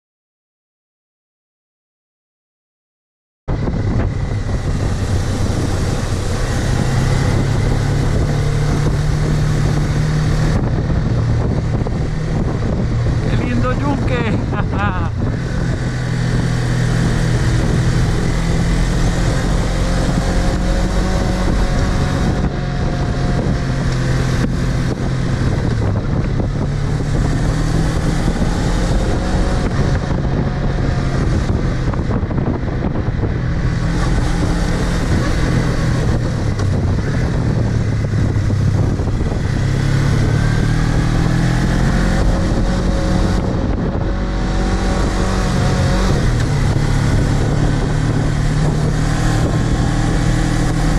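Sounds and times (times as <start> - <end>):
motorcycle engine running: 3.5 - 50.9
wind noise on microphone: 3.5 - 50.9.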